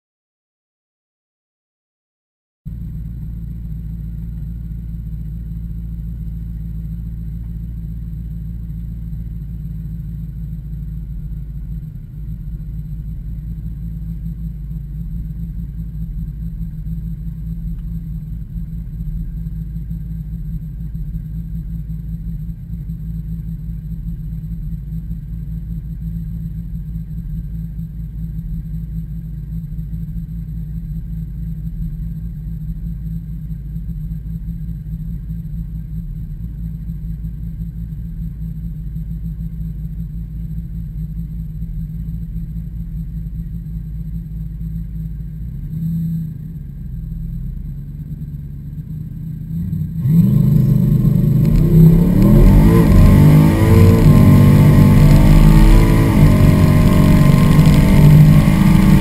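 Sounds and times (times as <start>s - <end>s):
engine idling low rumble: 2.7s - 59.0s.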